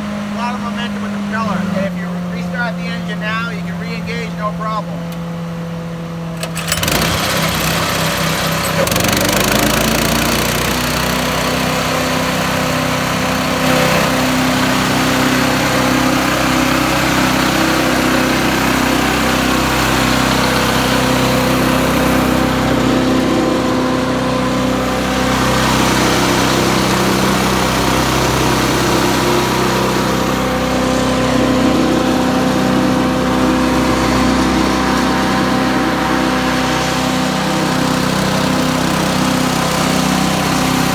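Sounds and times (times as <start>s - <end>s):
small engine revving: 6.2s - 40.9s
chipper rushing noise: 6.4s - 40.9s.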